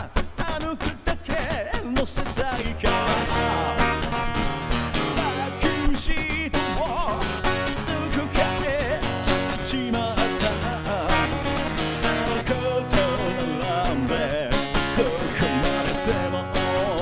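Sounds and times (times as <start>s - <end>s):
man singing rock song: 0.0s - 4.4s, 5.0s - 17.0s
strummed acoustic guitar: 0.0s - 17.0s.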